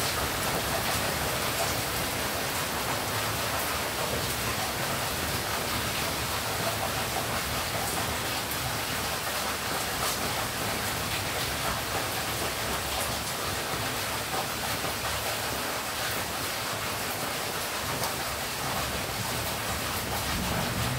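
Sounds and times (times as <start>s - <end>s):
heavy rain hissing: 0.0s - 20.9s
raindrops ticking nearby: 0.0s - 20.9s.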